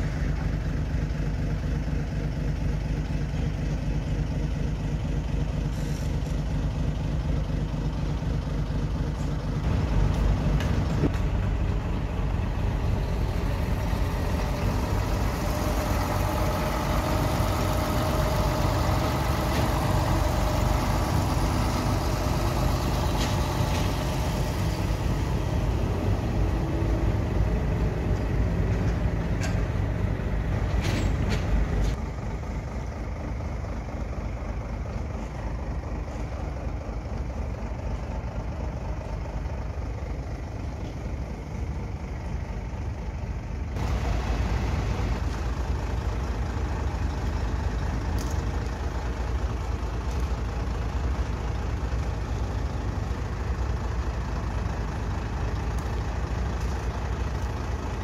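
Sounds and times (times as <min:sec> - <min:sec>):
diesel truck engine pulling away: 0:00.0 - 0:58.0.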